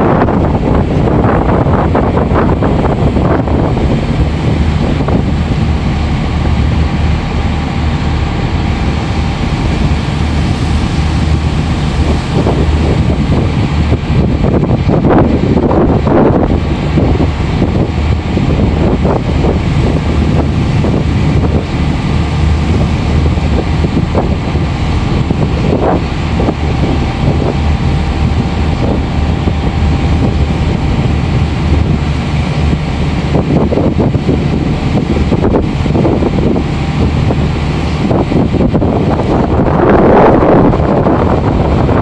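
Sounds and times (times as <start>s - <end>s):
ship engine humming: 0.0s - 42.0s
wind buffeting microphone: 0.0s - 42.0s.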